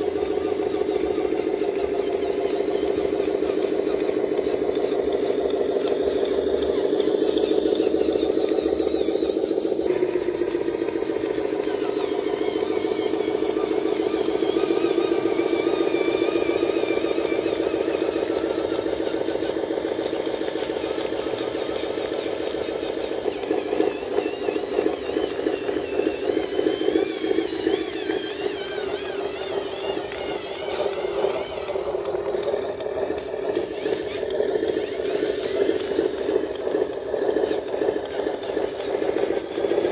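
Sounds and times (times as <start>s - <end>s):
toy truck motor whining: 0.0s - 39.9s.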